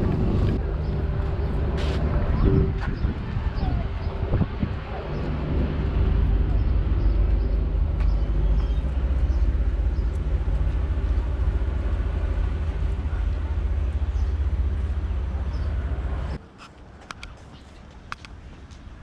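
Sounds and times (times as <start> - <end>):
diesel engine running: 0.0 - 16.4.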